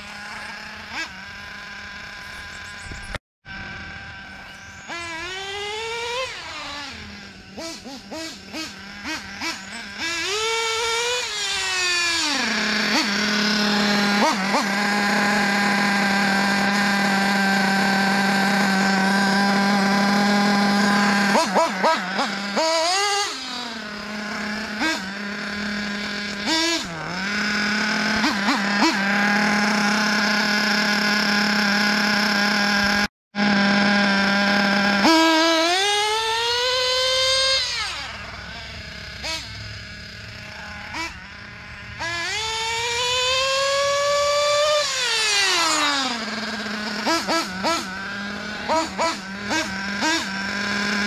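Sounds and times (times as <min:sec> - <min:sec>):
rc buggy engine buzzing: 0:00.0 - 0:51.0.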